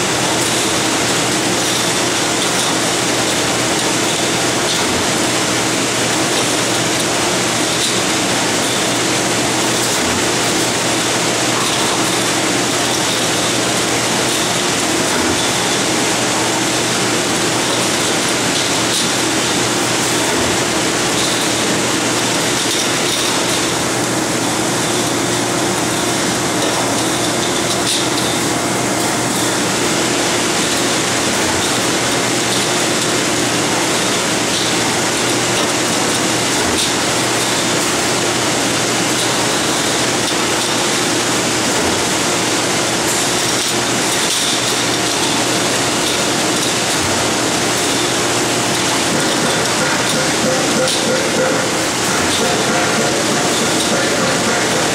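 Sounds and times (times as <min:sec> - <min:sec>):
factory machinery hum: 0:00.0 - 0:54.9.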